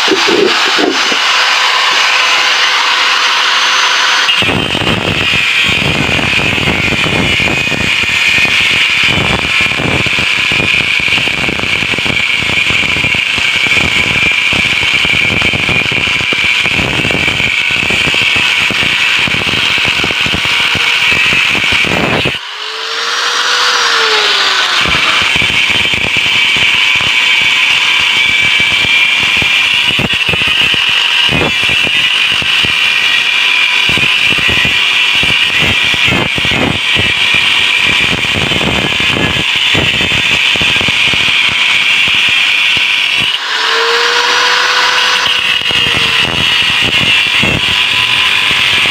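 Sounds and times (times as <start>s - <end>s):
angle grinder cutting steel: 0.0s - 48.9s.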